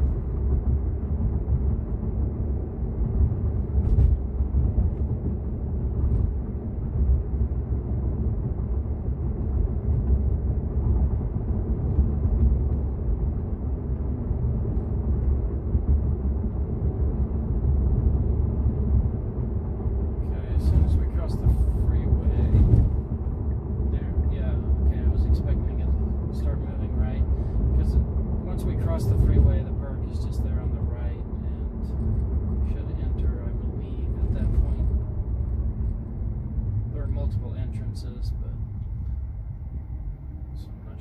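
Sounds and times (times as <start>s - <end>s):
road and tyre rumble: 0.0s - 41.0s.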